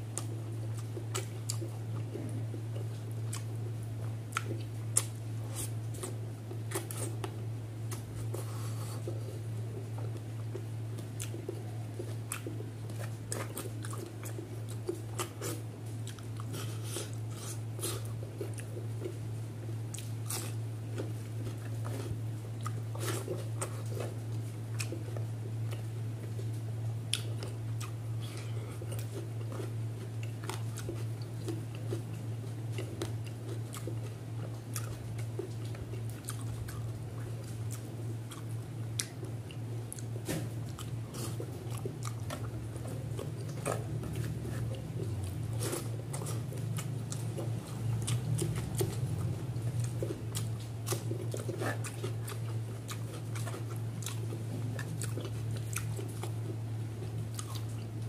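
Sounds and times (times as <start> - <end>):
steady low hum: 0.0 - 58.0
chewing and wet mouth clicks: 0.1 - 9.2, 10.0 - 19.2, 19.9 - 26.5, 27.1 - 58.0.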